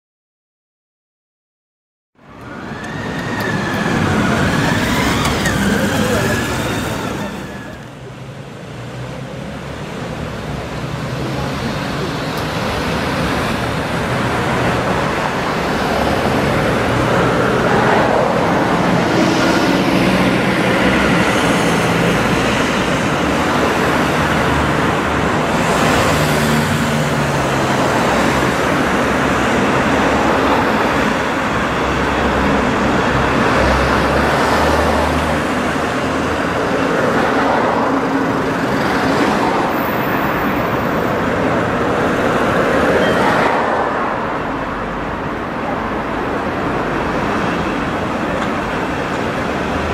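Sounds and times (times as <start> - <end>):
road traffic: 2.2 - 49.9
vehicles swishing past: 2.4 - 49.9.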